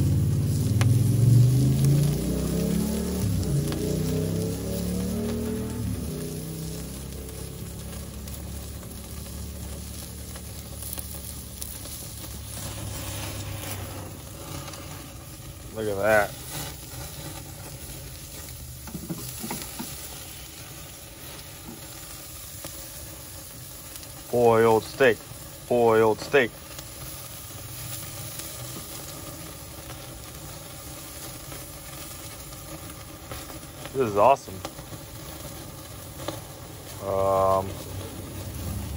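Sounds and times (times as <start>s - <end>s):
steaks sizzling on grill: 0.0s - 38.9s.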